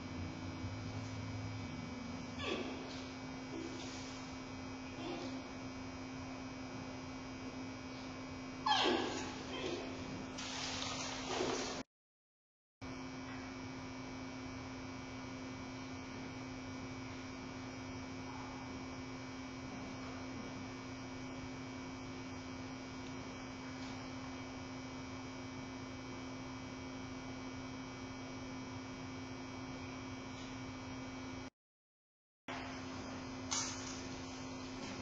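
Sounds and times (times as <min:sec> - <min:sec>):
electrical hum: 0:00.0 - 0:11.9, 0:12.8 - 0:31.5, 0:32.5 - 0:35.0.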